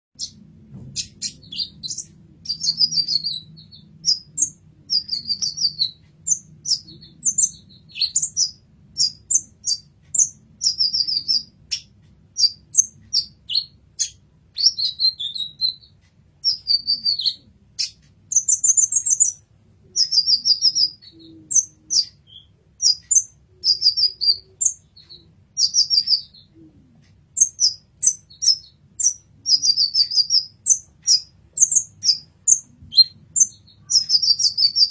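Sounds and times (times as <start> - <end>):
bird chirping and trilling: 0.2 - 34.9.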